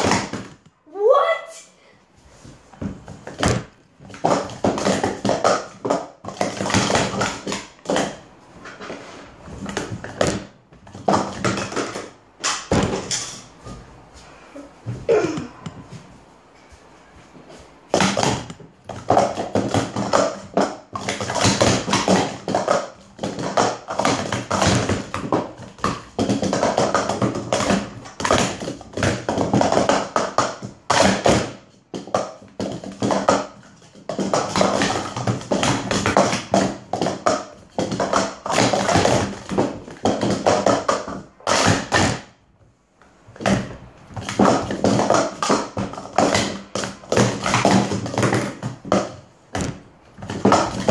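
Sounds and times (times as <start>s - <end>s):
plastic cups clattering: 2.8s - 13.6s, 17.9s - 42.3s, 43.3s - 50.9s.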